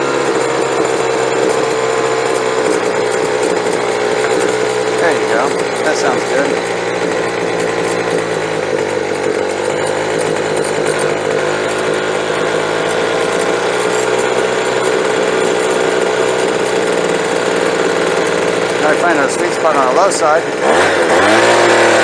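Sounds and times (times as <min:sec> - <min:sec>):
leaf blower engine running: 0:00.0 - 0:22.0.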